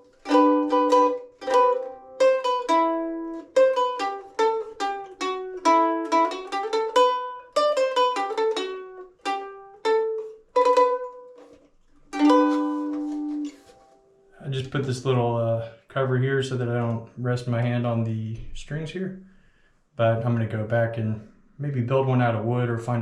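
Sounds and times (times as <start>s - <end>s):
ukulele strummed and picked: 0.0s - 18.6s.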